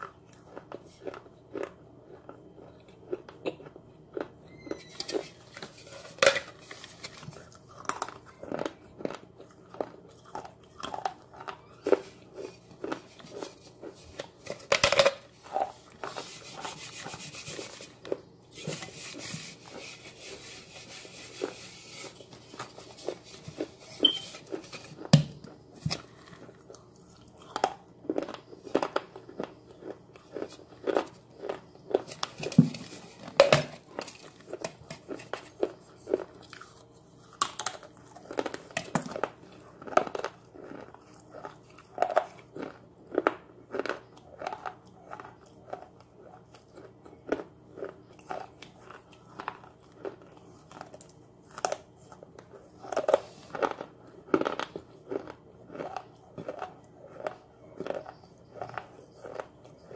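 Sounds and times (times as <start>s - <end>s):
crunching and chewing clay: 0.0s - 59.9s.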